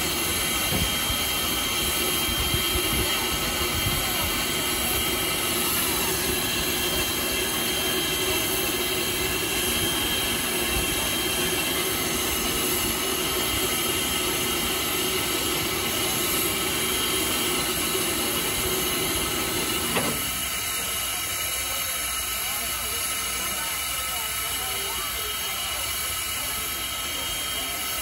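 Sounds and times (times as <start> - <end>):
steam locomotive hissing and rumbling: 0.0 - 28.0.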